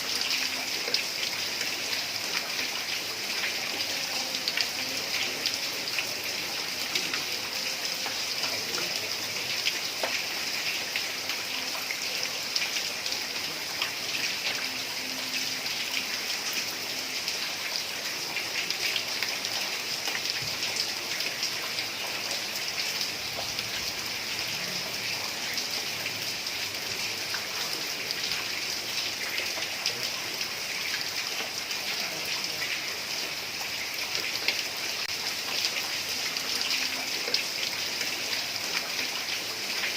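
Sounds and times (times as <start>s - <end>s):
heavy rain on roof tiles: 0.0s - 39.9s.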